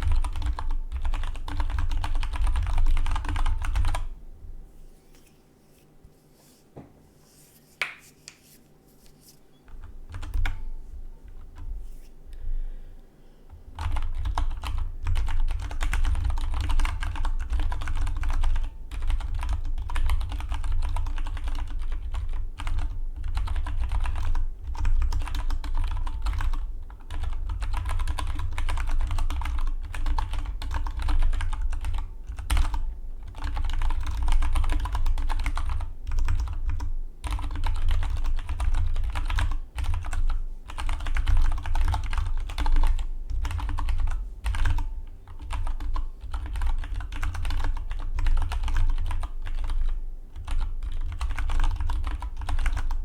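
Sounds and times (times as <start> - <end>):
mechanical keyboard typing: 0.0 - 4.1, 9.8 - 10.6, 13.8 - 53.0.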